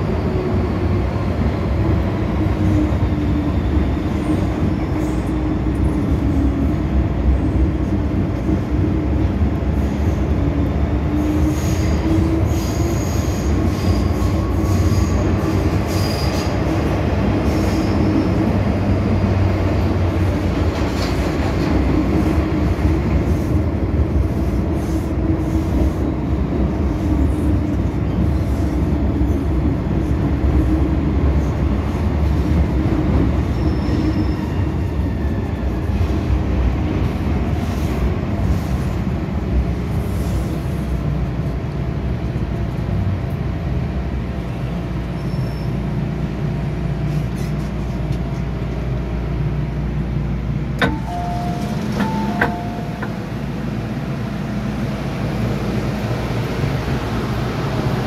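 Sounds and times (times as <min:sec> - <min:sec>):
subway train wheels rumbling on rails: 0:00.0 - 0:58.0.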